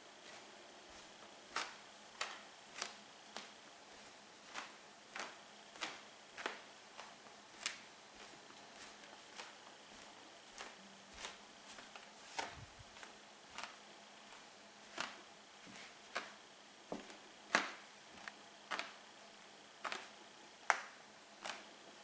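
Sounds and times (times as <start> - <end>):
footsteps in socks: 0.0 - 19.0.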